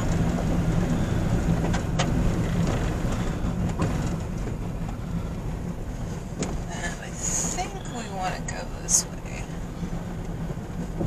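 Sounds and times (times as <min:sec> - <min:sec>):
car driving on gravel: 0:00.0 - 0:11.0.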